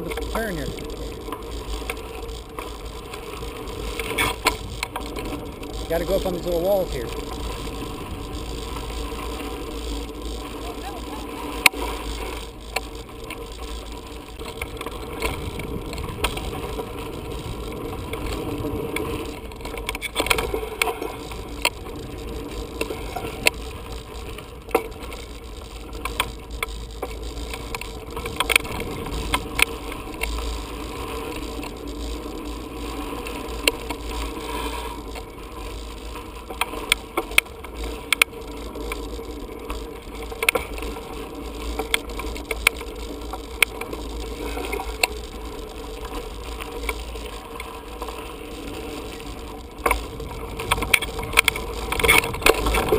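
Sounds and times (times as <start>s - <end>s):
bike chain rattling and clicking: 0.0s - 52.9s
low rumble of tyres: 0.0s - 52.9s.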